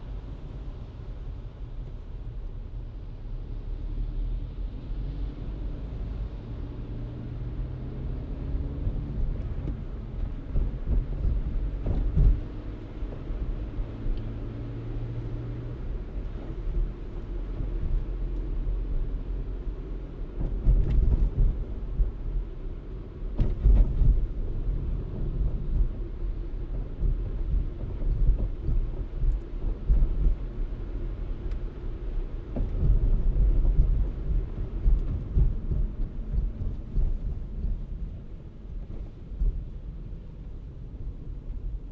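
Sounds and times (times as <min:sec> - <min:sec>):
car road and wind noise: 0:00.0 - 0:41.9.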